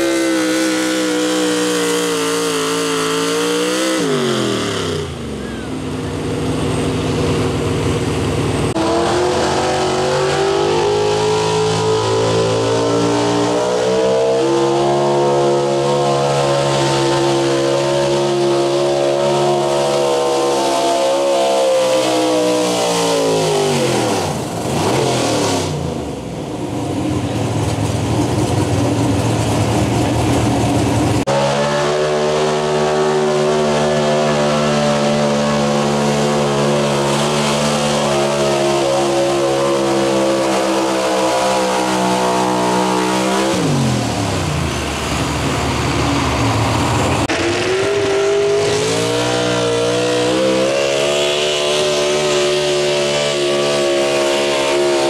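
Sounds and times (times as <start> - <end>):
truck engines at full throttle: 0.0 - 55.0.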